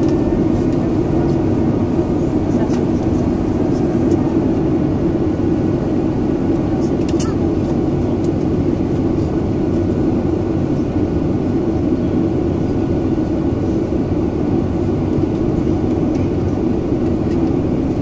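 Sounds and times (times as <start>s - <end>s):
airplane cabin hum: 0.0s - 18.0s.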